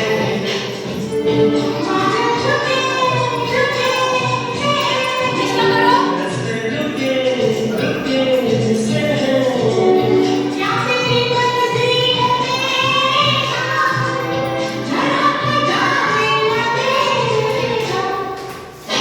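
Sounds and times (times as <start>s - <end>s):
group of voices singing: 0.0s - 18.2s.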